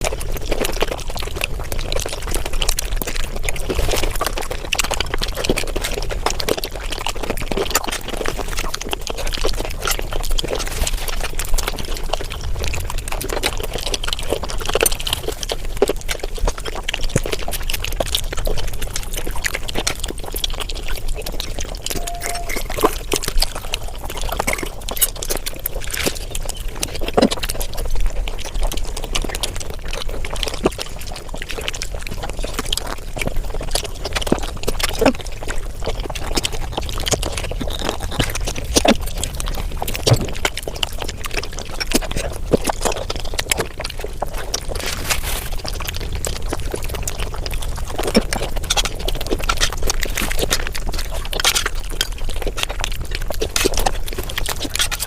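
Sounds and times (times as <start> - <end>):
sped-up wet chewing and slurping: 0.0 - 55.0.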